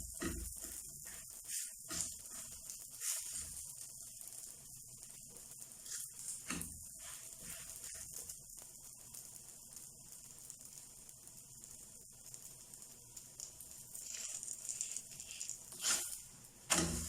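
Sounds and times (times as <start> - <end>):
dough sizzling in a pan: 0.0 - 17.0.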